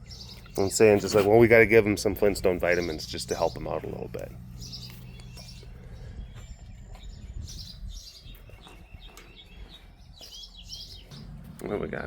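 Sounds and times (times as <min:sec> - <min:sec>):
birds chirping: 0:00.0 - 0:12.0
low background rumble: 0:01.4 - 0:12.0.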